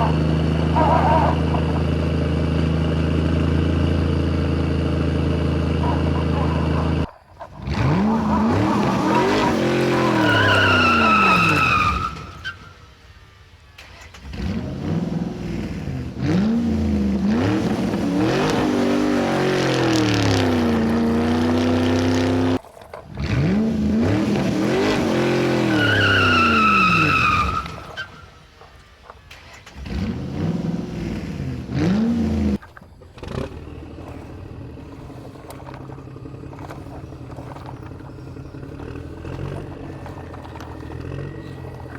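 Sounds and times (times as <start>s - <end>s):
car engine revving: 0.0s - 41.9s
tire squeal: 0.0s - 41.9s.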